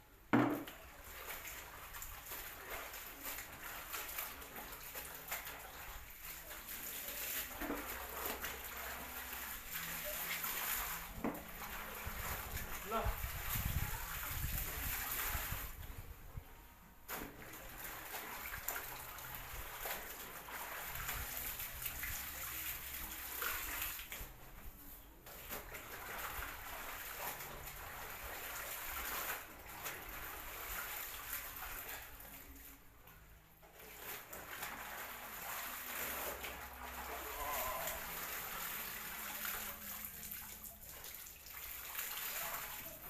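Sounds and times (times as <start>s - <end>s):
water splashing and sloshing: 0.2s - 43.0s.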